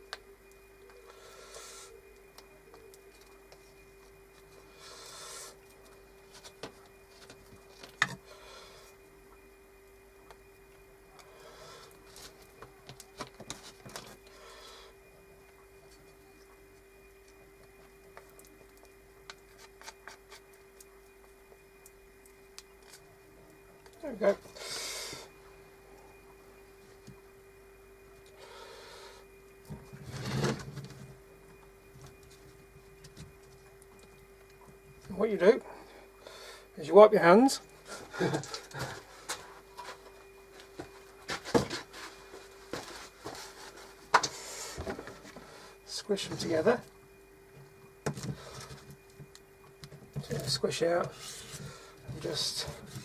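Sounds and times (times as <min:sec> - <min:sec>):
faint electrical hum: 0:00.0 - 0:53.0.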